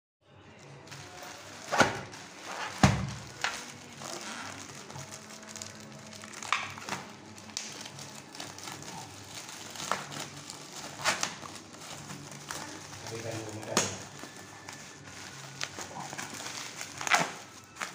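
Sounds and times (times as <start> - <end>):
plastic bag crinkling and tearing: 0.7 - 17.9.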